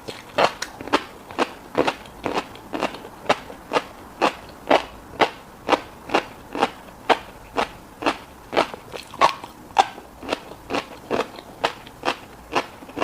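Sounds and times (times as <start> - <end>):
crisp wet chewing: 0.0 - 13.0.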